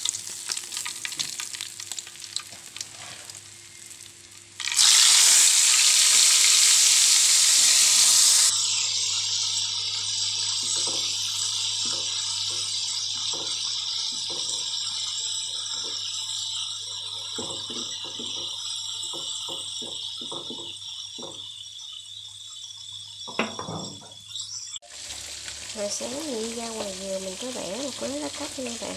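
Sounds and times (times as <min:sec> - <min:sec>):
fish sizzling in hot oil: 0:00.0 - 0:28.9.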